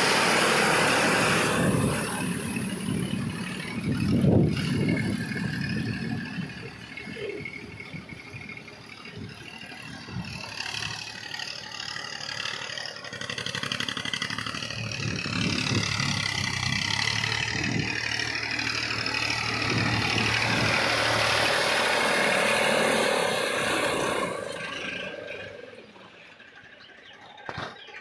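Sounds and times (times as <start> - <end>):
mud and water churning: 0.0 - 25.7
tractor diesel engine: 0.0 - 28.0.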